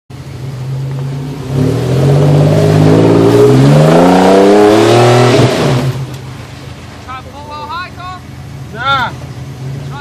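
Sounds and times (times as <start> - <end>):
suv engine revving: 0.1 - 7.5, 8.2 - 10.0.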